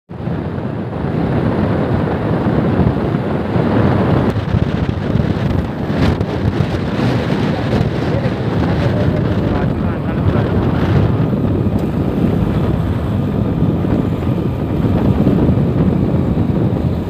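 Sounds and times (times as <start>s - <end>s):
wind buffeting microphone: 0.1s - 17.0s
road noise: 0.2s - 17.0s.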